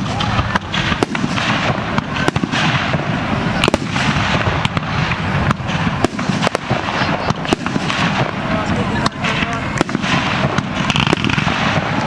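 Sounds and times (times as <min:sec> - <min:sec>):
firework crackle and rumble: 0:00.0 - 0:12.0
firework shells bursting: 0:00.0 - 0:12.0.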